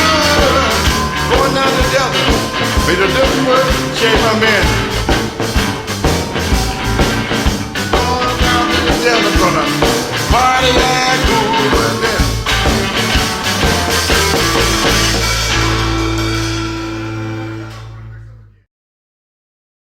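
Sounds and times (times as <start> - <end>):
electric blues band playing: 0.0 - 18.5.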